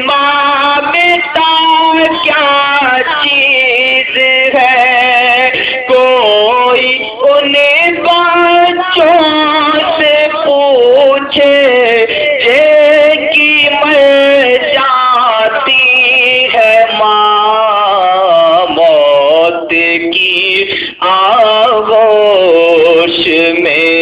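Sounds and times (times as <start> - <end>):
man singing melodic line: 0.0 - 24.0.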